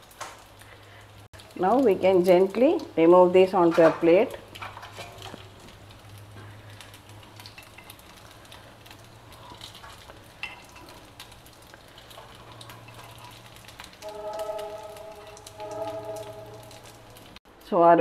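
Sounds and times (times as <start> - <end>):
food sizzling in oil: 0.0 - 17.4.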